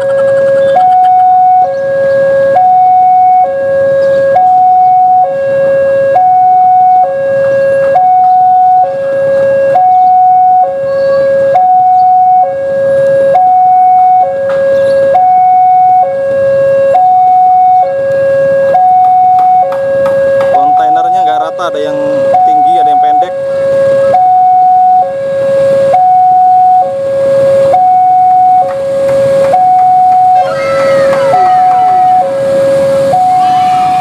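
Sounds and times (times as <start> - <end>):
diesel train rumble: 0.0 - 34.0
level crossing two-tone alarm: 0.0 - 34.0.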